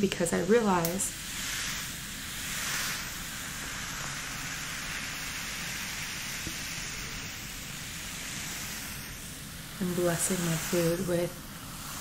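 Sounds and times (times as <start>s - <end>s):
soda fizzing in a glass jar: 0.7s - 12.0s.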